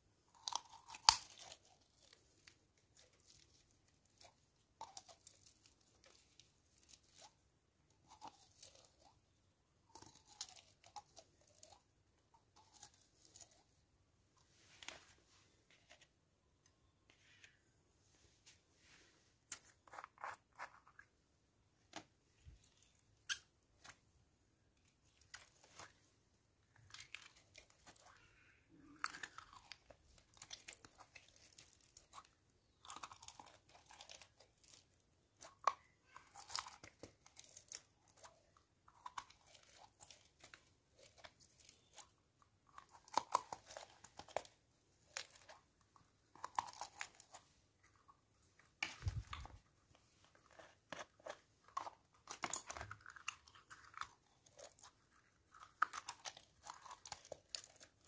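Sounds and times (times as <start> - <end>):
slime crackling and squishing: 0.0 - 13.8, 24.6 - 58.0.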